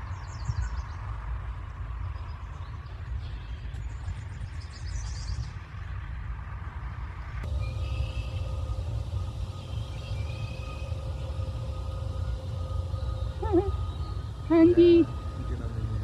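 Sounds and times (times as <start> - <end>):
songbird singing trills: 0.0 - 5.9, 7.4 - 16.0
steady low rumble: 0.0 - 16.0.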